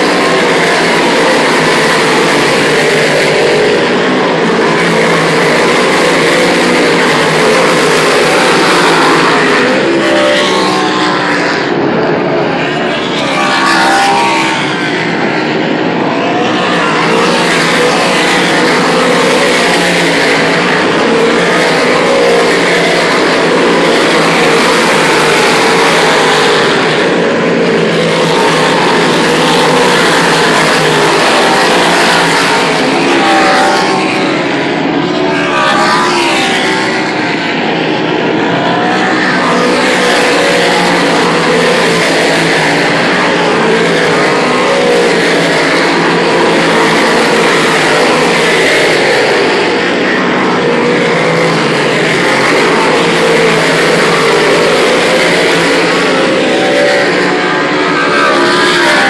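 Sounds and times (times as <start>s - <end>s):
race car engines roaring: 0.0s - 59.0s.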